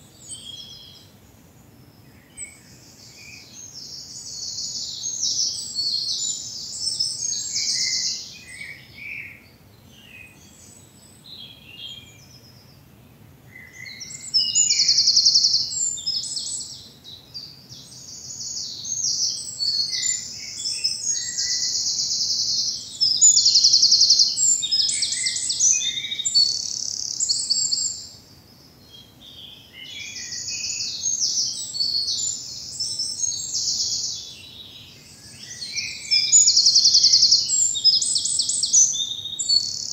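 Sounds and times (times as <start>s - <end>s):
songbirds singing with trills: 0.0s - 39.9s.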